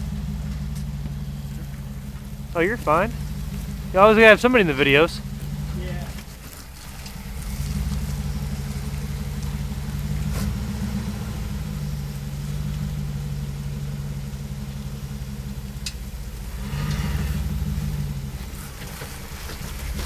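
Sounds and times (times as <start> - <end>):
engine running at low speed: 0.0 - 20.0.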